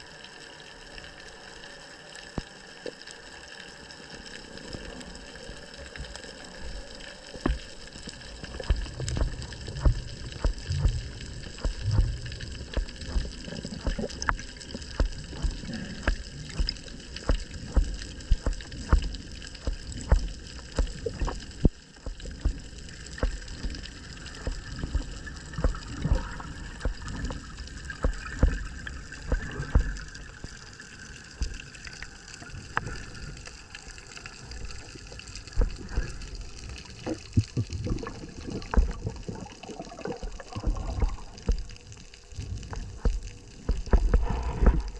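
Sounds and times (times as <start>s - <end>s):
water sloshing and gurgling: 2.3s - 44.9s.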